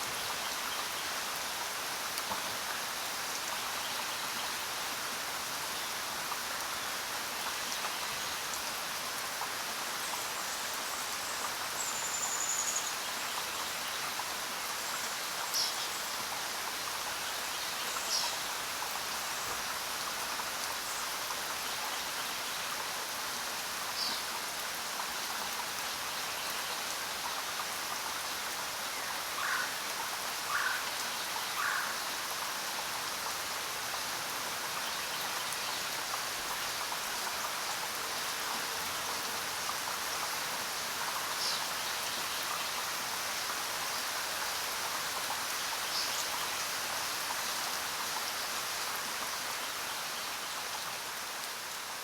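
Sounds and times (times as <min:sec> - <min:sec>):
rain on foliage: 0:00.0 - 0:52.0.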